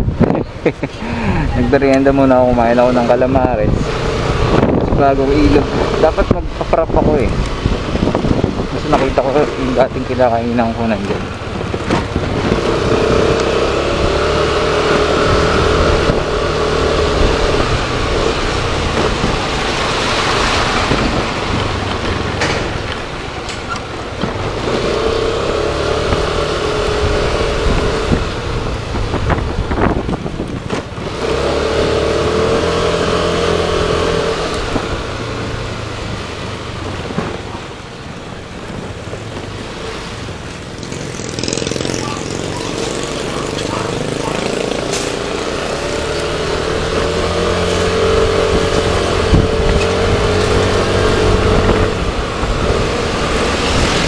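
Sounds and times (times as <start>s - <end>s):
motorcycle engine hum: 0.0s - 54.0s.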